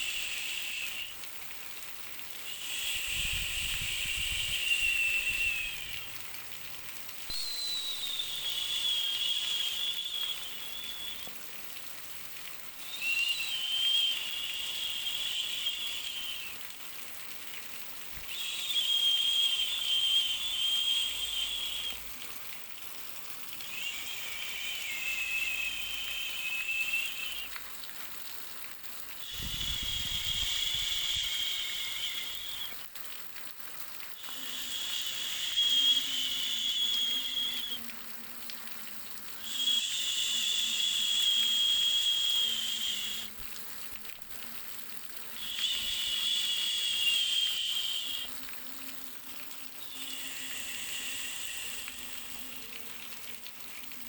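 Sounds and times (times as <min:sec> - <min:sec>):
pulsing hiss with whistling tone: 0:00.0 - 0:54.0.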